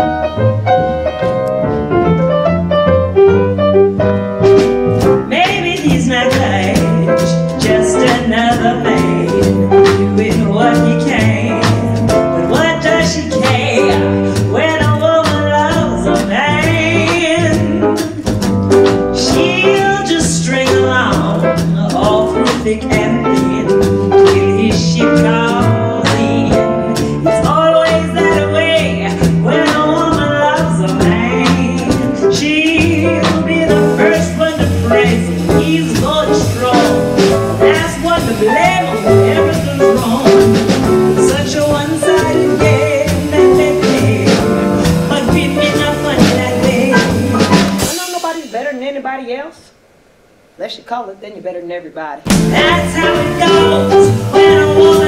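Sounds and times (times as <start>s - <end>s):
upright bass: 0.0s - 48.9s, 52.3s - 55.0s
piano: 0.0s - 50.5s, 52.2s - 55.0s
woman singing with vibrato: 5.3s - 18.3s, 19.2s - 48.7s, 52.3s - 55.0s.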